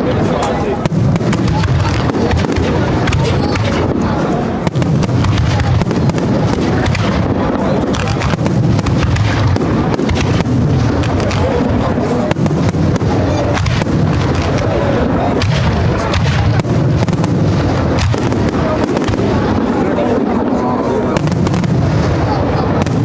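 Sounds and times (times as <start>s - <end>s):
comets launching: 0.0s - 23.0s
fireworks bangs and crackles: 0.0s - 23.0s.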